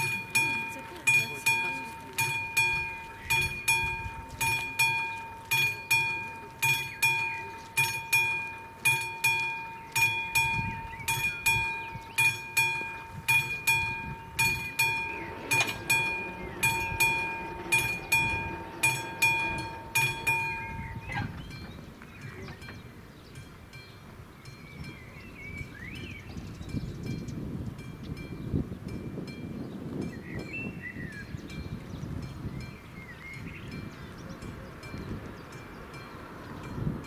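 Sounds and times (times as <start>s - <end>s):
level crossing warning bell: 0.0s - 25.2s, 26.7s - 37.0s.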